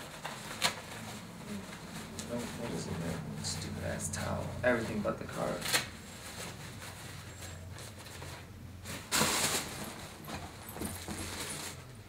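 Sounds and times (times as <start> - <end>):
fabric bags rustling: 0.0 - 12.0
low steady hum: 0.0 - 12.0.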